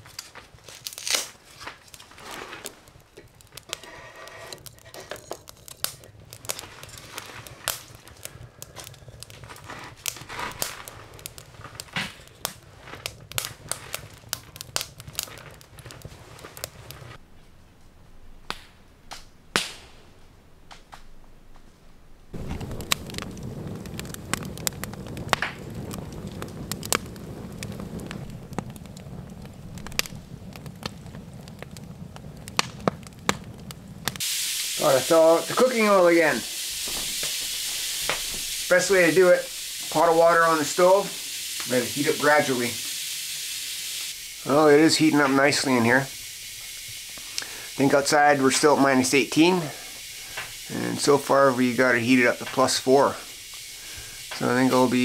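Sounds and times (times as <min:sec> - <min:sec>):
wood fire crackling and popping: 0:00.0 - 0:17.2, 0:18.4 - 0:20.0, 0:20.6 - 0:21.6, 0:22.3 - 0:55.0.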